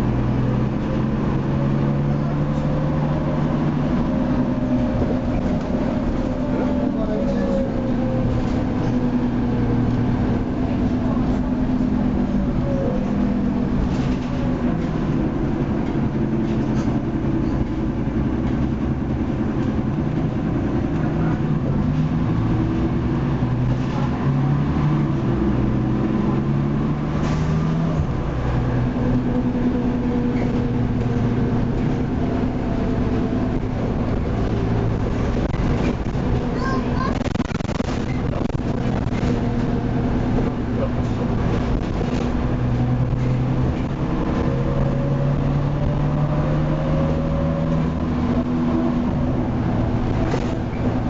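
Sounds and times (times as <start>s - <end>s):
bus body rattle: 0.0s - 24.4s, 25.0s - 45.2s, 47.1s - 51.0s
bus engine drone: 0.0s - 51.0s.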